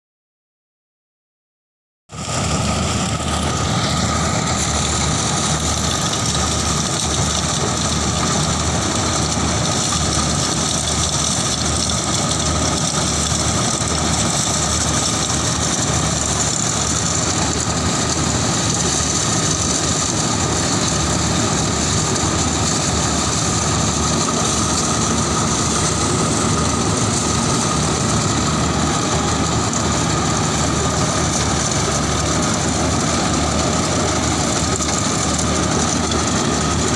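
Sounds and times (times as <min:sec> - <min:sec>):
heavy engine throbbing: 0:02.1 - 0:36.9.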